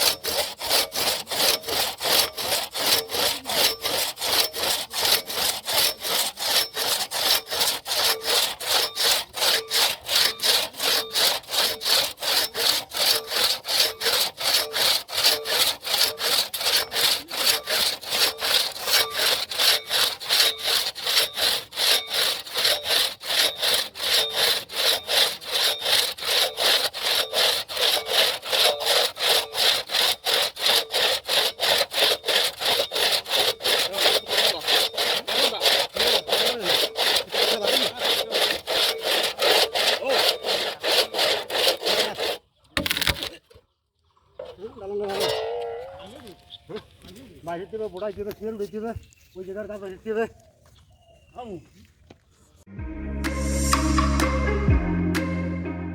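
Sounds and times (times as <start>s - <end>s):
hand saw cutting wood: 0.0s - 43.4s, 44.4s - 47.2s.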